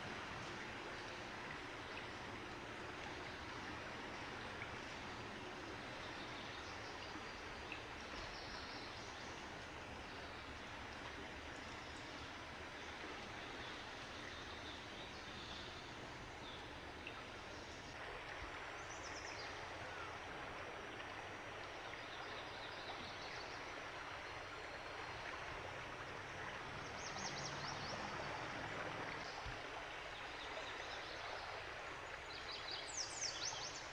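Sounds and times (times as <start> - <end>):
floodwater rushing in a channel: 0.0 - 33.9.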